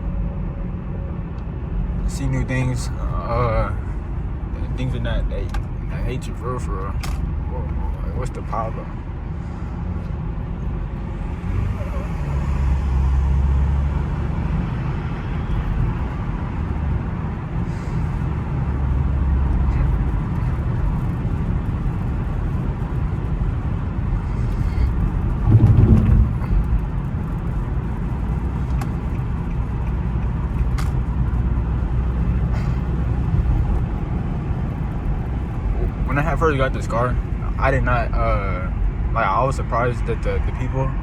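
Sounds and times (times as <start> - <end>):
engine and road drone in car: 0.0 - 41.0.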